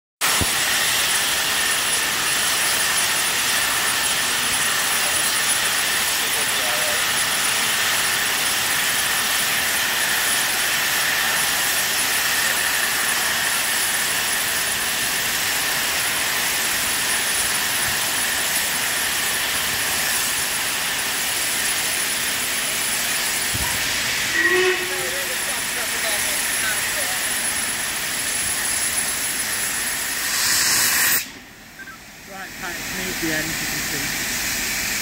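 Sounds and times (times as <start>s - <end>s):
steam safety valves hissing: 0.2s - 35.0s.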